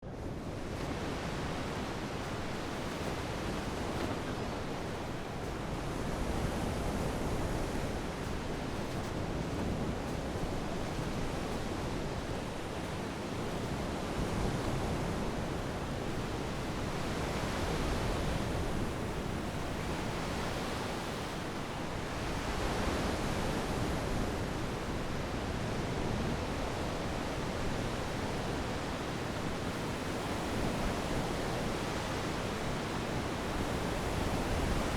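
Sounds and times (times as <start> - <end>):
wind and water rushing: 0.1 - 34.9.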